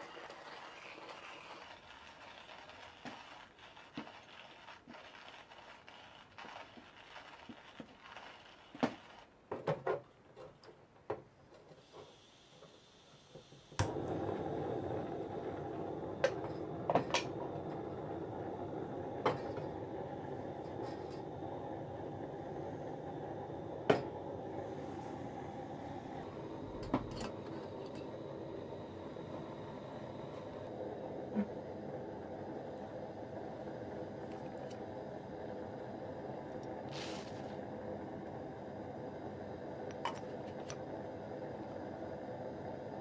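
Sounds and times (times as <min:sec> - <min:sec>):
gas flame burning: 0:00.0 - 0:10.8, 0:11.6 - 0:43.0.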